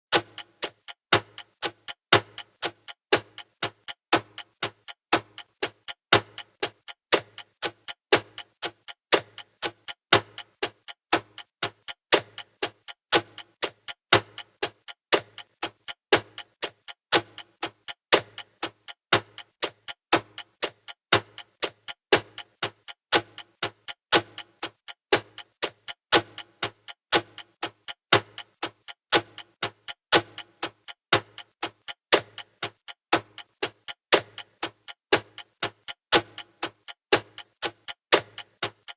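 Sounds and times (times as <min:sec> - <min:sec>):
clock ticking: 0:00.1 - 0:38.9.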